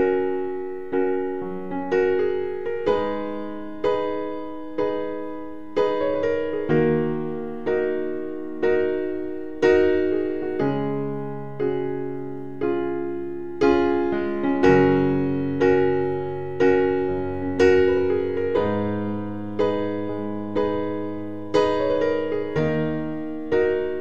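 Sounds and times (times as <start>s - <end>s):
slow keyboard chords: 0.0s - 24.0s.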